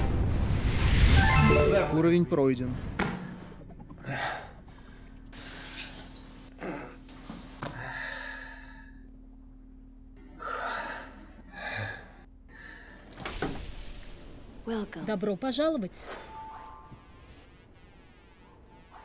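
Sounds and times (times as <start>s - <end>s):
faint steady hum: 2.4s - 19.0s.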